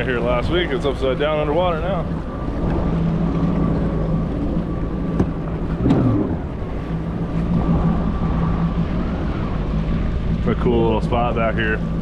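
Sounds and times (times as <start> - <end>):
watercraft engine humming: 0.0 - 12.0.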